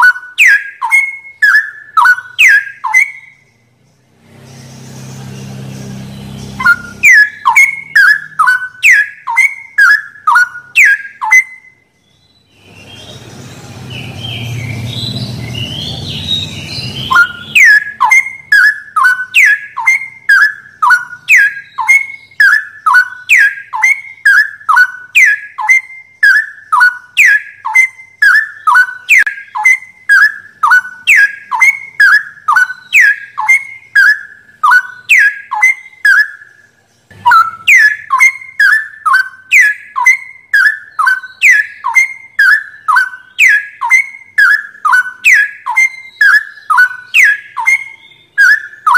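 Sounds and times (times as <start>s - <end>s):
bird whistling song: 0.0s - 48.9s.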